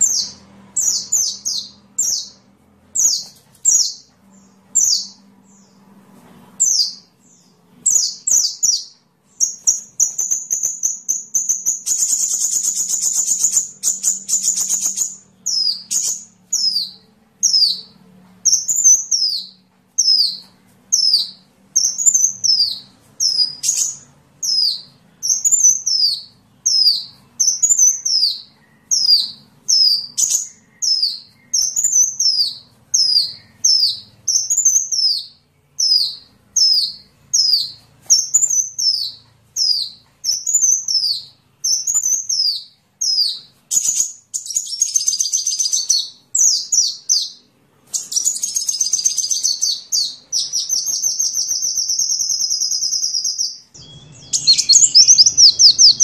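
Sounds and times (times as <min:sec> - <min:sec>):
sunbird chirps and trills: 0:00.0 - 0:56.0.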